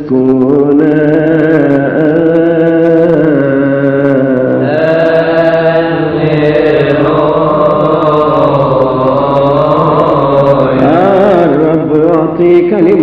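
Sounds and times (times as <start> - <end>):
man chanting: 0.0 - 13.0
steady low drone: 0.0 - 13.0.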